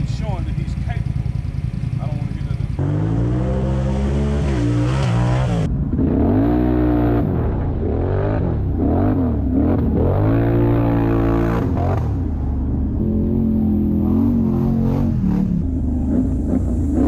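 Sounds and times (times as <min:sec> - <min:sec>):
engines idling: 0:00.0 - 0:06.1, 0:07.3 - 0:17.0
engine revving: 0:00.0 - 0:17.0.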